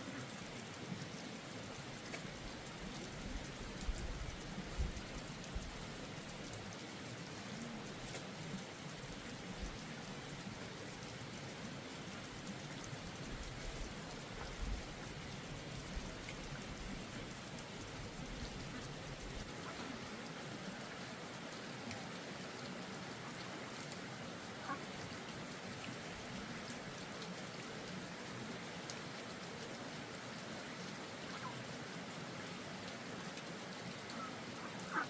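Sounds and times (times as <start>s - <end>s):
falling water pattering: 0.0s - 35.0s.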